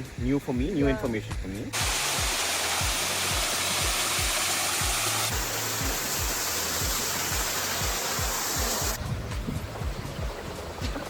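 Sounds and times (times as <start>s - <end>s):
background music with low beat: 0.0s - 11.0s
running water rushing: 0.0s - 11.0s.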